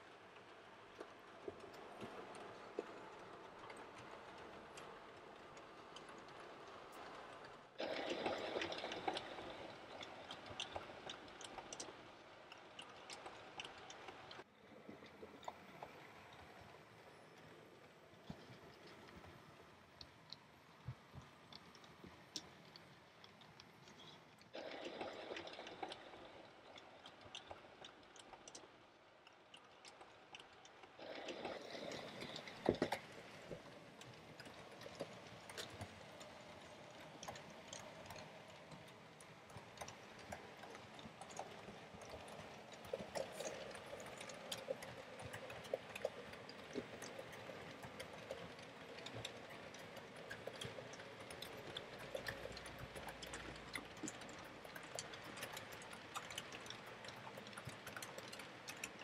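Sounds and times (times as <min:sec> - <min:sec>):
model train wheels on rails: 0:00.0 - 0:59.0
small irregular clicks: 0:00.0 - 0:59.0.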